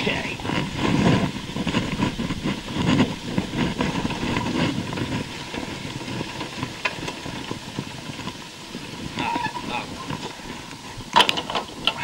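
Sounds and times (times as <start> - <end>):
quad bike engine running: 0.0 - 12.0
steady hiss: 0.0 - 12.0.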